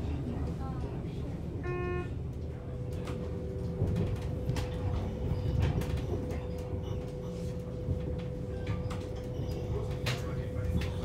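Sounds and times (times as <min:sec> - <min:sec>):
train running gear rumble: 0:00.0 - 0:11.0.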